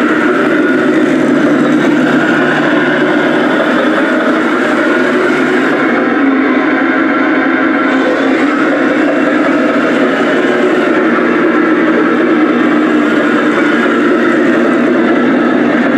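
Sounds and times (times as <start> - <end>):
toy vehicle motor drone: 0.0 - 6.2, 7.6 - 15.8.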